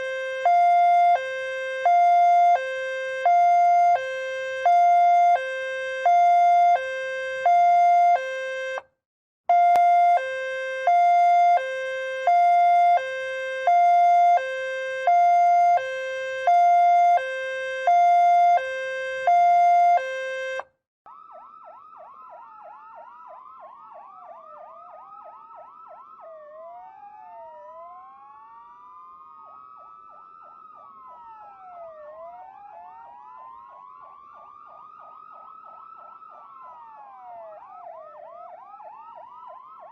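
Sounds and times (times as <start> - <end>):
electronic siren wailing and yelping: 0.0 - 8.8, 9.5 - 39.9
two-tone hi-lo siren: 0.0 - 8.9, 9.5 - 39.9.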